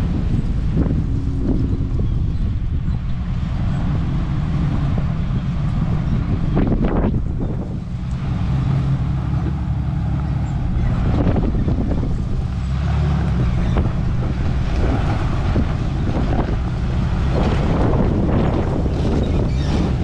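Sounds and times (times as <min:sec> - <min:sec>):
low engine and road rumble: 0:00.0 - 0:20.0
wind buffeting microphone: 0:00.0 - 0:20.0.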